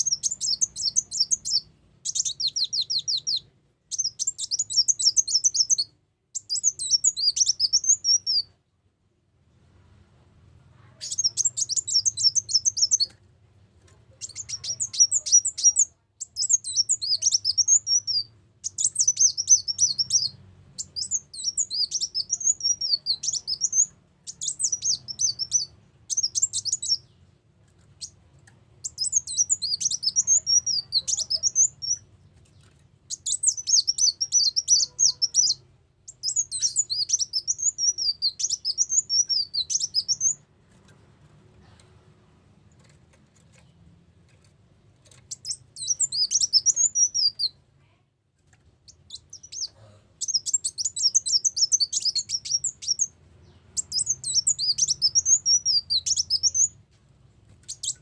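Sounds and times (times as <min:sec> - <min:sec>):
bird twittering song: 0:00.0 - 0:08.5, 0:10.9 - 0:13.2, 0:14.1 - 0:41.0, 0:45.0 - 0:47.6, 0:48.8 - 0:56.8, 0:57.6 - 0:58.0.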